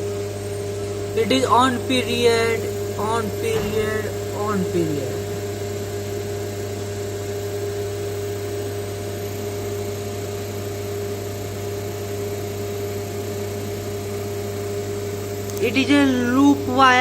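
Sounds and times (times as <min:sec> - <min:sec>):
hvac machinery hum: 0:00.0 - 0:17.0.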